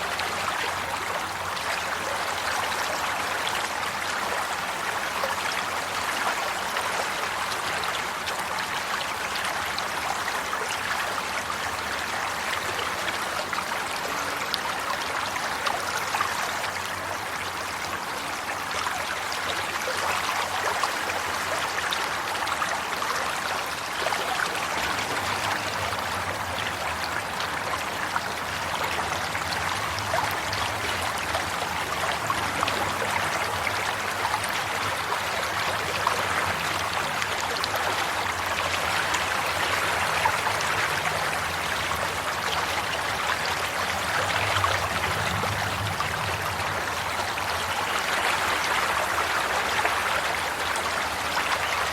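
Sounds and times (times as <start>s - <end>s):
stream water babbling: 0.0s - 51.9s.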